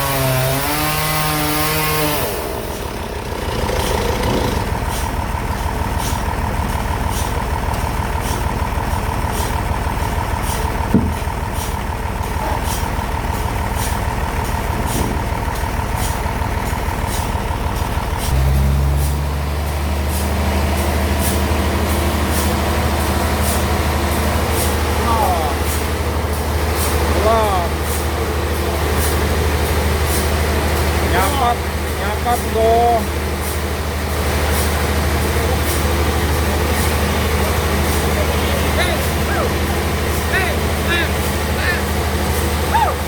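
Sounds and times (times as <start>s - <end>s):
bandsaw machinery running: 0.0s - 43.0s
deep steady hum: 0.0s - 43.0s.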